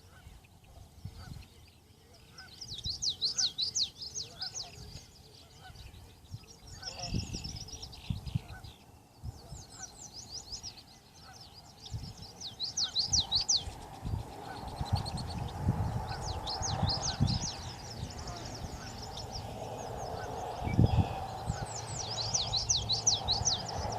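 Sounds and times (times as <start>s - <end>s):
birds chirping: 0.0s - 23.9s.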